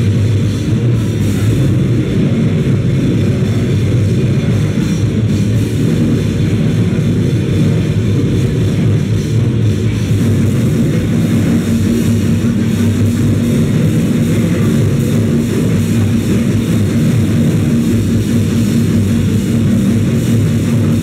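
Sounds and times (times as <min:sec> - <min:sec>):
distorted guitar and bass: 0:00.0 - 0:21.0
drums: 0:00.0 - 0:21.0.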